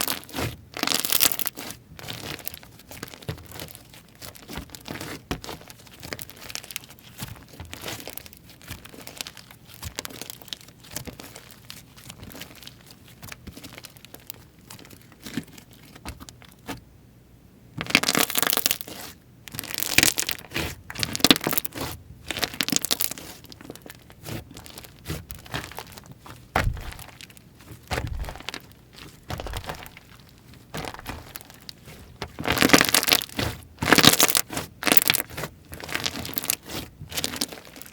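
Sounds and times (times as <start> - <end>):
slime crackling and popping: 0.0 - 16.5, 17.8 - 37.9.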